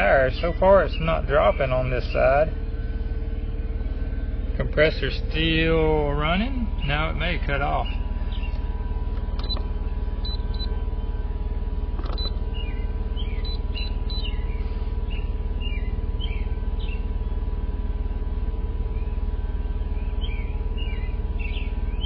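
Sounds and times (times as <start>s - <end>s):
birds chirping: 0.0s - 22.0s
car engine idling: 0.0s - 22.0s.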